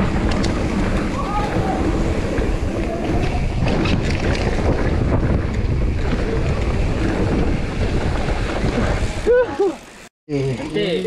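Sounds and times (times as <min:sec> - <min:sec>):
wind buffeting microphone: 0:00.0 - 0:09.4
tyres rumbling on rough ground: 0:00.0 - 0:11.0.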